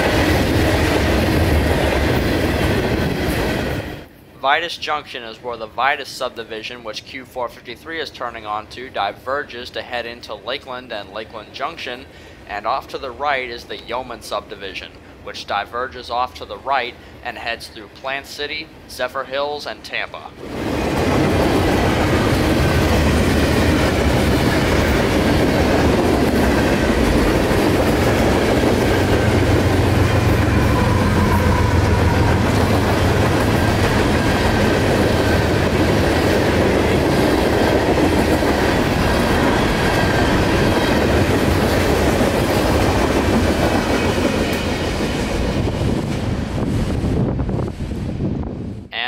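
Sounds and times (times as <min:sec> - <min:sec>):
freight train rolling on rails: 0:00.0 - 0:05.0, 0:07.8 - 0:48.6.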